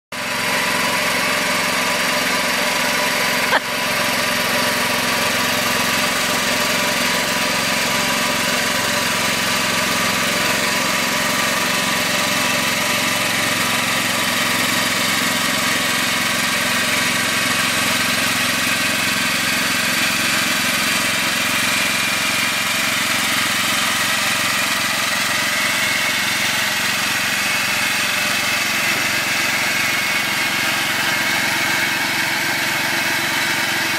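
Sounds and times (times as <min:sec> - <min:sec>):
lawn tractor engine running: 0:00.1 - 0:33.9.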